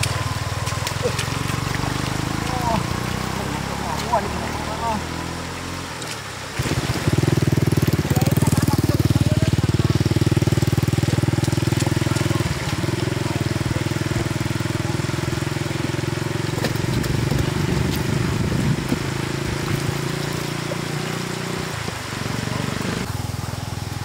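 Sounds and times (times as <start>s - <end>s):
small engine pulsing hum: 0.0s - 24.0s.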